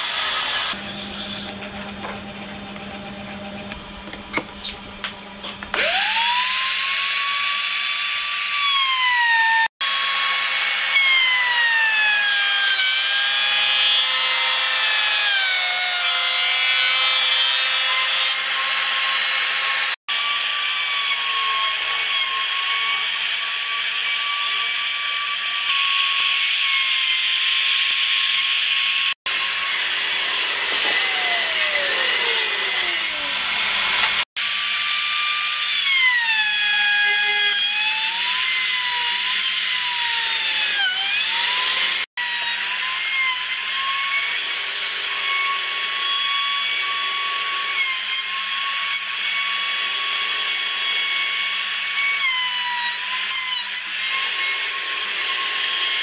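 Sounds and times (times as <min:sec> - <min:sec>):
router whining: 0:00.0 - 0:56.0.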